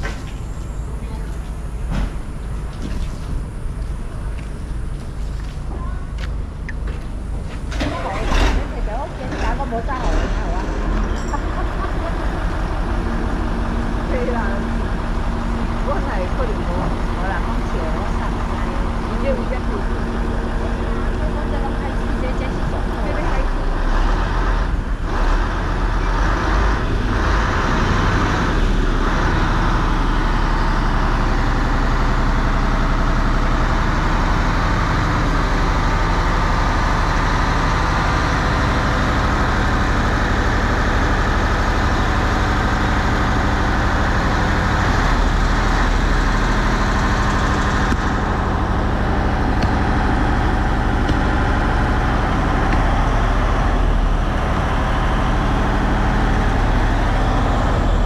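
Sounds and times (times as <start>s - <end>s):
heavy crane engine running: 0.0s - 58.0s.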